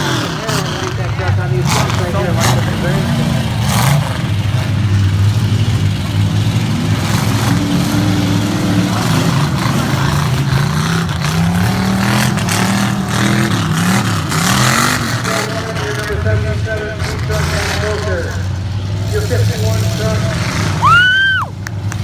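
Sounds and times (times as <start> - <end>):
truck engines revving: 0.0 - 22.0.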